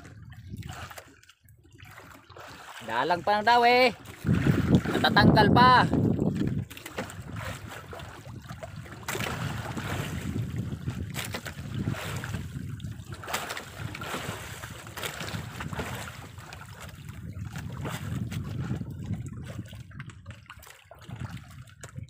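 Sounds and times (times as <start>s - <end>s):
wind on microphone: 0.0s - 1.0s, 3.7s - 22.0s
water washing against boat: 0.0s - 22.0s.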